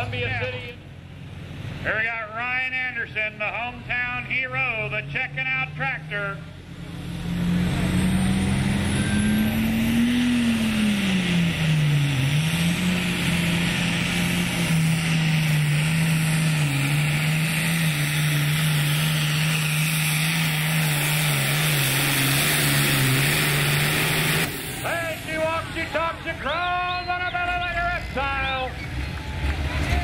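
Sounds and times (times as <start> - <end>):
diesel tractor engine under load: 0.0 - 30.0.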